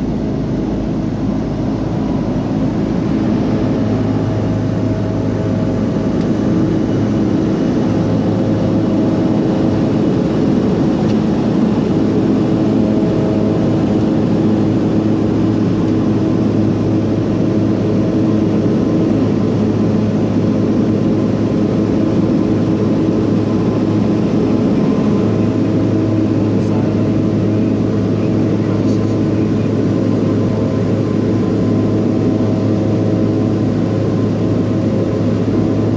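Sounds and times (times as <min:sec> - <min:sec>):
engine drone: 0:00.0 - 0:35.9.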